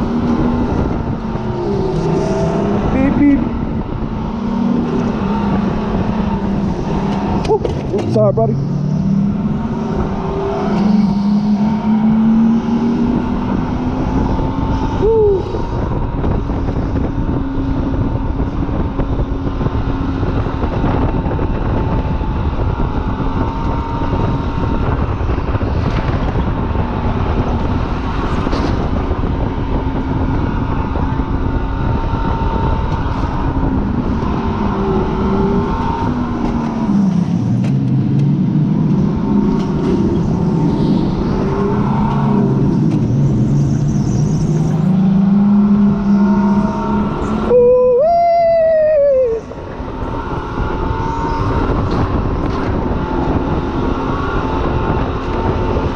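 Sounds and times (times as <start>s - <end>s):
car engine at high revs: 0.0s - 55.9s
road and wind noise: 0.0s - 55.9s.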